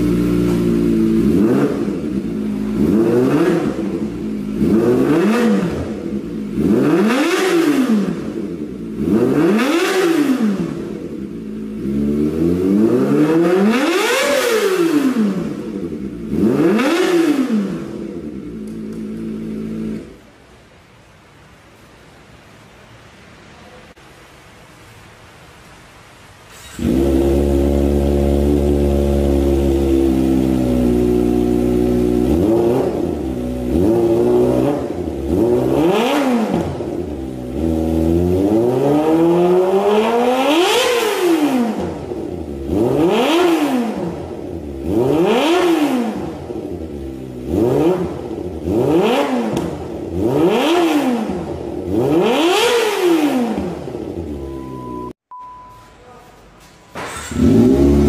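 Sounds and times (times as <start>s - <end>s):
motorcycle engine revving: 0.0s - 20.3s, 26.5s - 55.2s, 57.0s - 58.0s.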